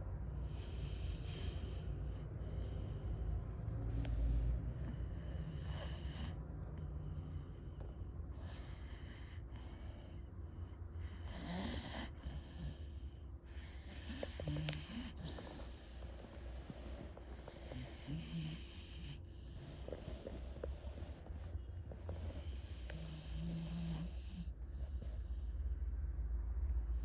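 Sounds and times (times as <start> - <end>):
dog snoring: 0.0 - 25.9, 26.7 - 27.0.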